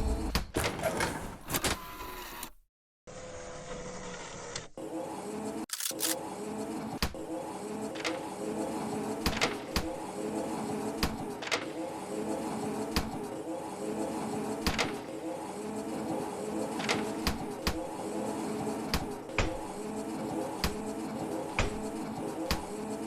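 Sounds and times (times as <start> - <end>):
train motor hum: 4.5 - 23.0.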